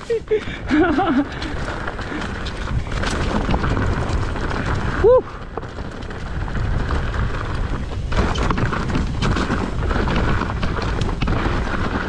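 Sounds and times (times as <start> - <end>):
bike tyres rumbling: 0.0 - 12.0
wind on microphone: 0.0 - 12.0
bike knocks and rattles: 0.1 - 12.0.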